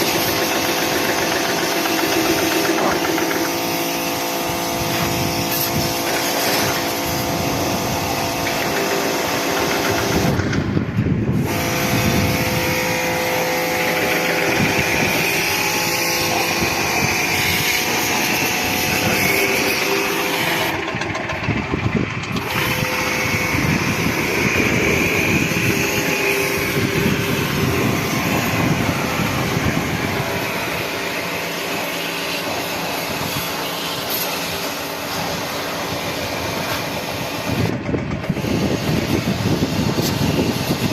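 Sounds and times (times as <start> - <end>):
motor-driven machine hissing: 0.0 - 40.9.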